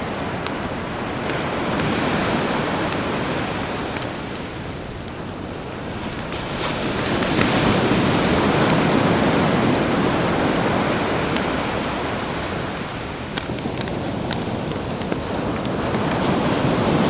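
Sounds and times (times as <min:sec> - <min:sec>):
campfire crackling: 0:00.0 - 0:17.0
sea wave surging and washing back: 0:00.0 - 0:17.0.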